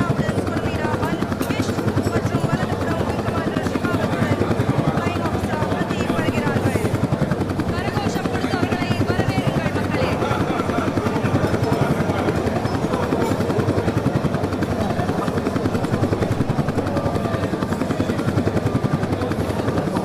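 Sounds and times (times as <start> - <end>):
helicopter rotors chopping: 0.0 - 20.0.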